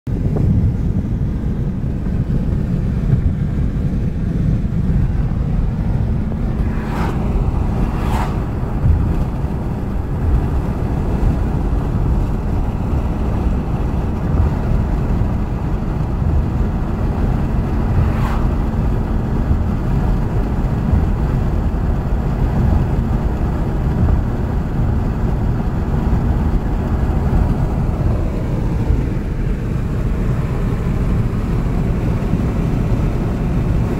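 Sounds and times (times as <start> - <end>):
tyre and wind noise: 0.1 - 33.9.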